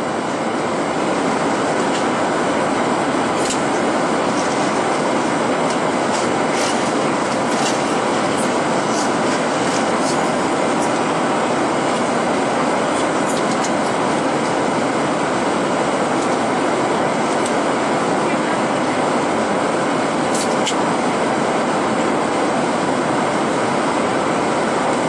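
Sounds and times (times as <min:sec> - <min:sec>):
airflow rush in aircraft cabin: 0:00.0 - 0:25.0
jet engine drone: 0:00.0 - 0:25.0.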